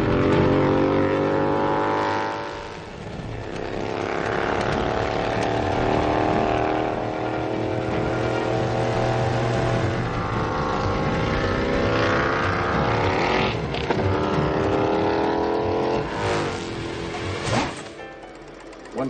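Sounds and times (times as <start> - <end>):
motorcycle engine at full throttle: 0.0 - 19.0.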